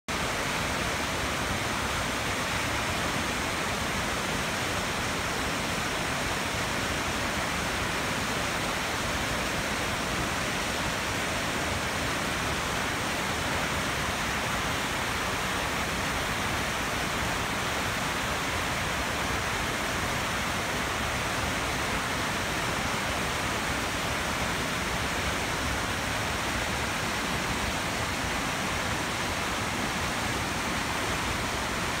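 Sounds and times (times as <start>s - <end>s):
white water rushing over rocks: 0.1s - 32.0s.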